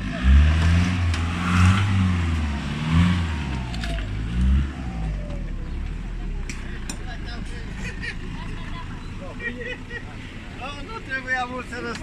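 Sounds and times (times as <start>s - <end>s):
truck engine revving: 0.0s - 10.9s.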